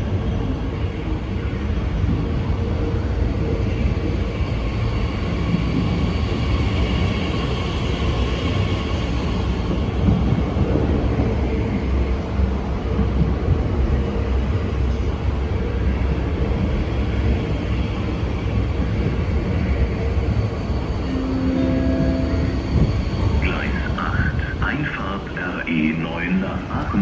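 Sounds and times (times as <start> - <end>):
faint train whine: 0.0 - 27.0
train rumbling: 0.0 - 27.0.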